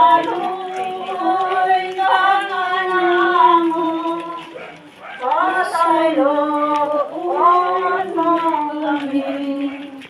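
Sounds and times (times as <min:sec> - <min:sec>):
women singing a slow hymn: 0:00.0 - 0:10.0.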